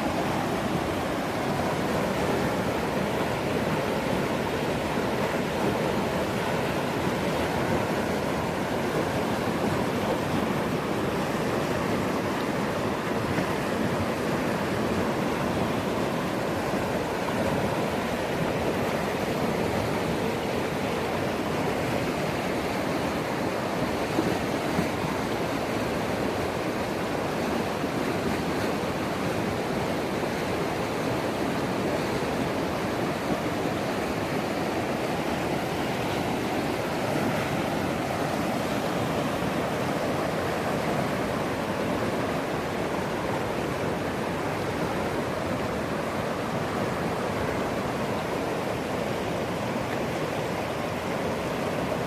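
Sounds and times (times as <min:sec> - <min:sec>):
river rushing: 0:00.0 - 0:52.0.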